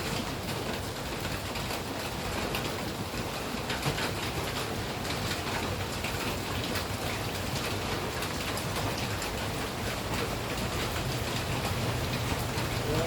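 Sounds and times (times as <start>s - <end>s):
rain drops pattering: 0.0s - 13.0s.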